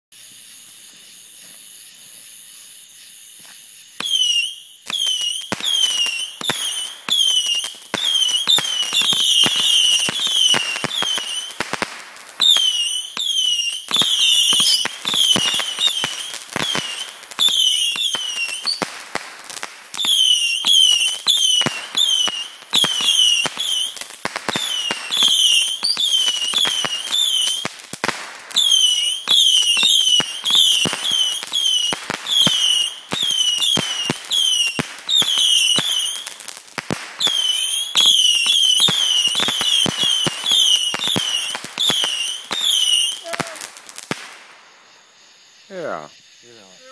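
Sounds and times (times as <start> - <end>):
fireworks popping and whistling: 0.1 - 46.9.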